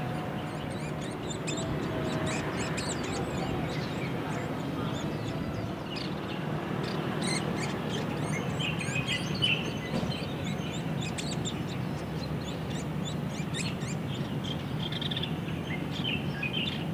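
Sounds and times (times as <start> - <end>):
high bird chirps: 0.4 - 16.9.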